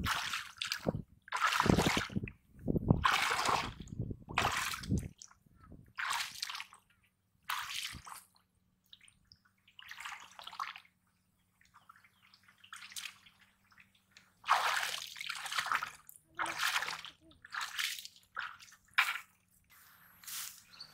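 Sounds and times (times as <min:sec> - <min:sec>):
pond water sloshing and splashing: 0:00.0 - 0:19.7.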